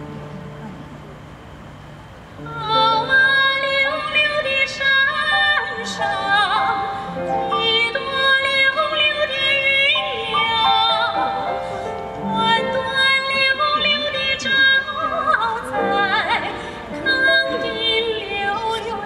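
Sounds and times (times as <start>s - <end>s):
woman singing opera: 2.4s - 11.6s, 12.2s - 19.0s.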